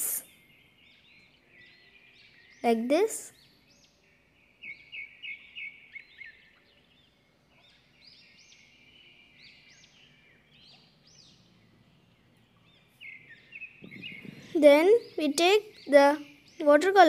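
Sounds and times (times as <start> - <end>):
small birds chirping faintly: 0.0 - 17.0.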